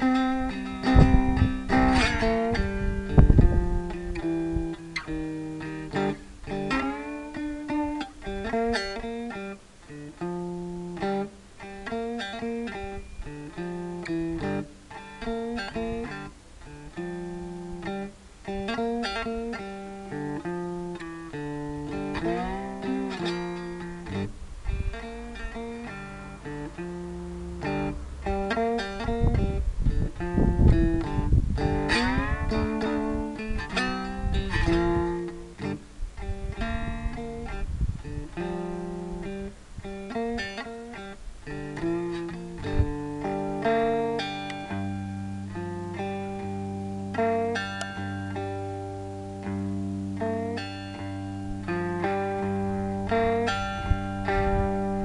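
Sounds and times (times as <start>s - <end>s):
amplified cigar box guitar: 0.0s - 55.0s.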